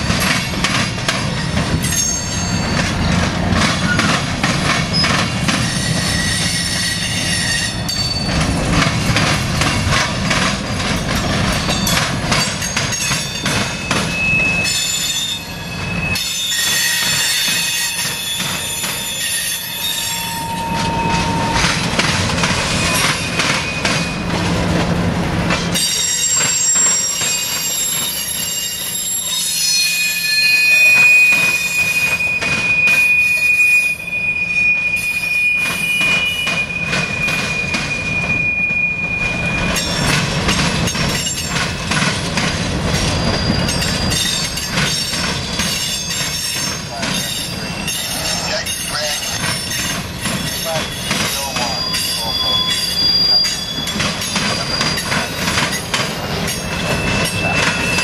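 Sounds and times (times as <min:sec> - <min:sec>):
train wheels clattering: 0:00.0 - 0:33.3, 0:35.3 - 0:58.0
metal wheel squeal: 0:01.3 - 0:03.0, 0:04.9 - 0:08.4, 0:12.6 - 0:24.3, 0:25.8 - 0:40.2, 0:42.9 - 0:58.0.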